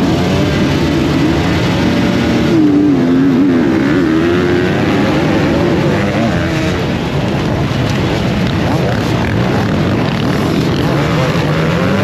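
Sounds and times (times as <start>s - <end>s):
motocross bike engine revving: 0.0s - 7.2s, 8.0s - 12.0s.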